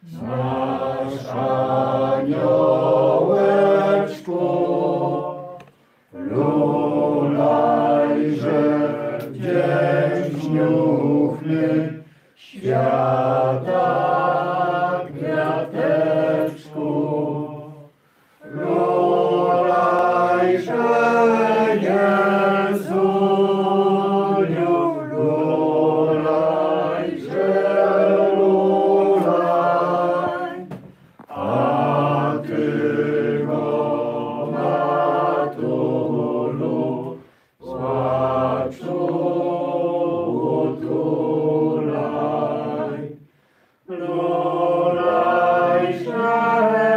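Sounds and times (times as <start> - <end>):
group singing a hymn unaccompanied: 0.0 - 46.9.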